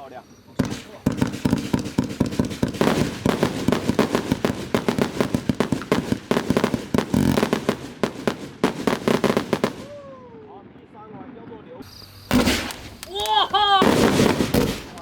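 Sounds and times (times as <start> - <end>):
fireworks barrage of bangs and pops: 0.6 - 10.0, 11.9 - 15.0.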